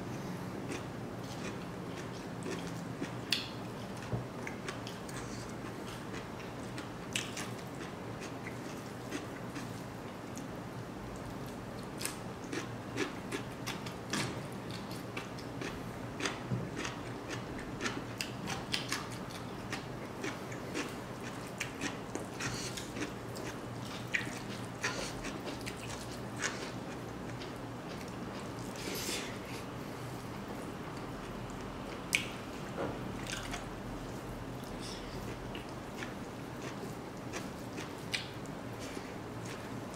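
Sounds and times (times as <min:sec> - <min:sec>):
chewing food: 0:00.7 - 0:10.5, 0:11.2 - 0:29.0, 0:33.2 - 0:39.9.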